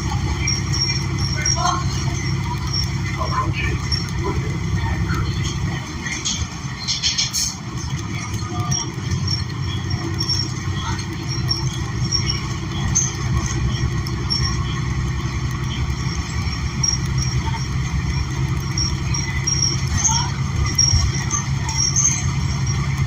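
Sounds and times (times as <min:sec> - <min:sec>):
bus engine low rumble: 0:00.0 - 0:23.0
high-pitched squeaks and rattles: 0:00.0 - 0:23.0.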